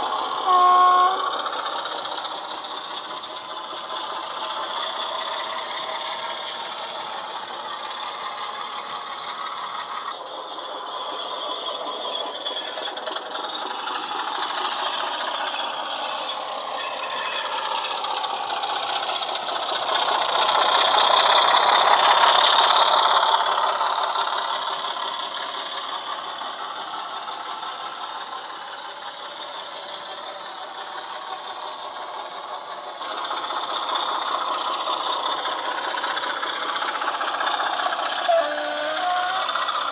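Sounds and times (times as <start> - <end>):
diesel engine sound from small speaker: 0.0 - 39.9
model train wheels rattling on track: 0.0 - 39.9.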